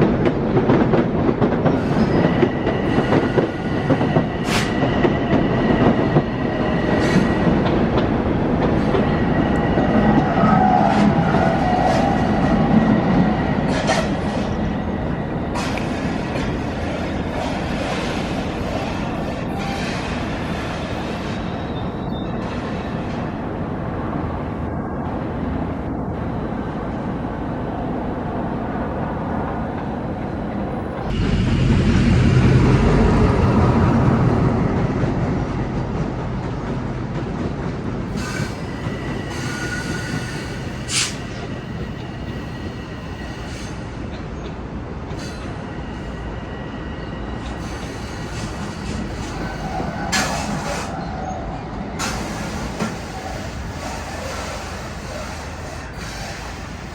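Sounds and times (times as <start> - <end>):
train rumbling on track: 0.0 - 56.9.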